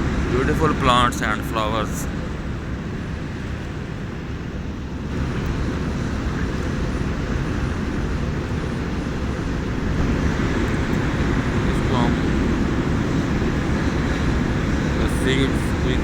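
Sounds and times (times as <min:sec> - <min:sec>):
dense low rumble: 0:00.0 - 0:16.0.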